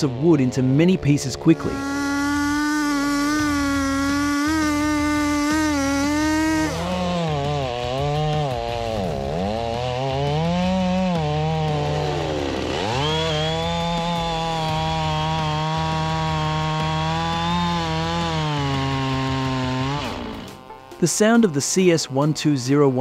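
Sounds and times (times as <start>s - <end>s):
chainsaw cutting log: 0.0s - 22.6s.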